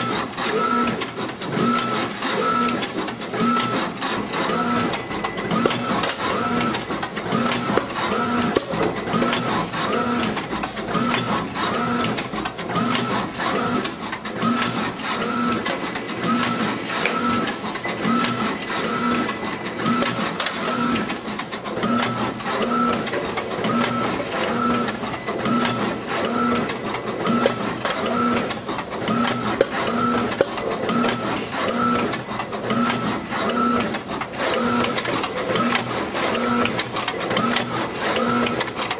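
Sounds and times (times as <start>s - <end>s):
sushi machine running: 0.0s - 38.9s.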